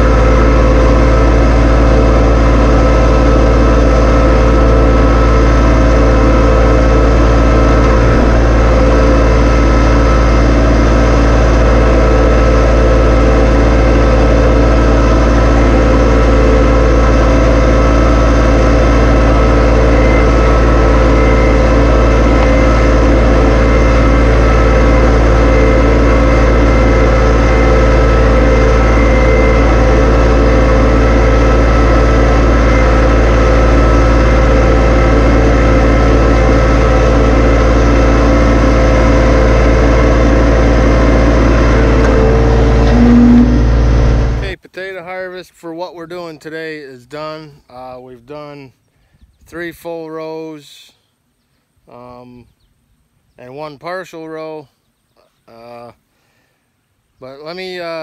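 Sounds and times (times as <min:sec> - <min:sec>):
tractor diesel engine running: 0:00.0 - 0:48.8.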